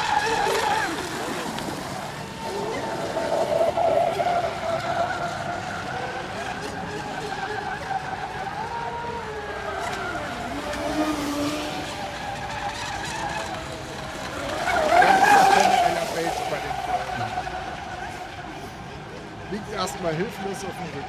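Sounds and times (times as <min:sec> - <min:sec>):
model boat motor whining: 0:00.0 - 0:21.0.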